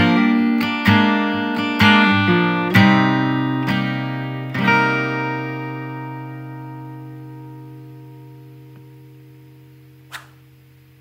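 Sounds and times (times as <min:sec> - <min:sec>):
guitar chords strummed: 0:00.0 - 0:11.0.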